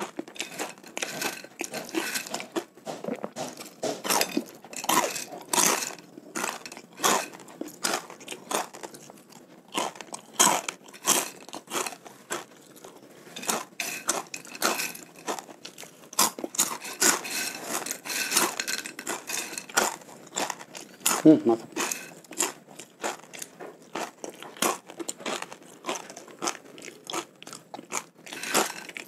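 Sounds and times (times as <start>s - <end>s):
crispy snack crunching: 0.0s - 29.0s.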